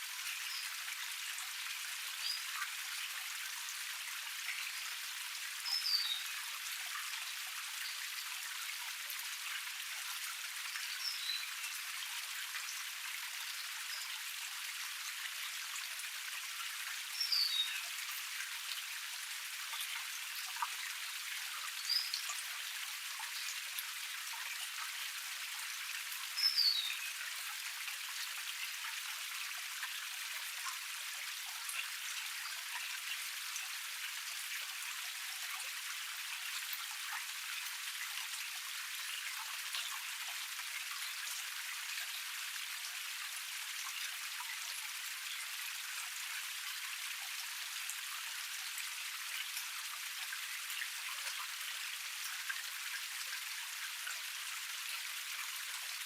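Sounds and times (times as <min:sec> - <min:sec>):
small waterfall splashing: 0:00.0 - 0:56.0.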